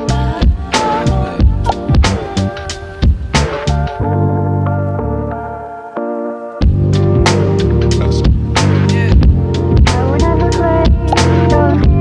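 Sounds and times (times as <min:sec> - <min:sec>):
held keyboard chord with bass: 0:00.0 - 0:12.0.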